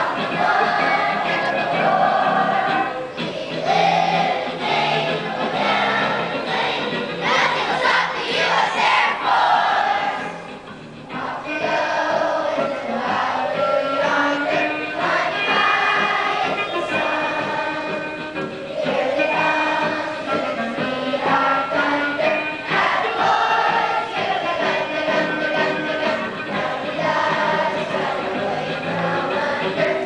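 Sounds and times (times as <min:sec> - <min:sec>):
choir singing sustained notes: 0:00.0 - 0:10.5, 0:11.1 - 0:30.0
musical accompaniment: 0:00.0 - 0:30.0.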